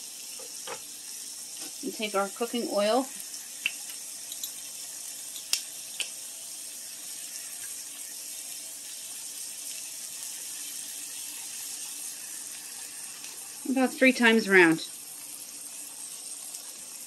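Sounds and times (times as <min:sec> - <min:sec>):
pork chops sizzling in a frying pan: 0:00.0 - 0:17.0.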